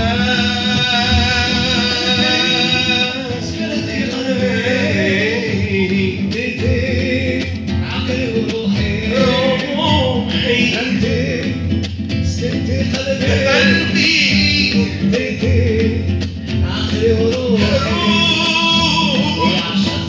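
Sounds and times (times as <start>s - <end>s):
strummed nylon-string guitar: 0.0s - 20.0s
two men singing: 0.0s - 20.0s.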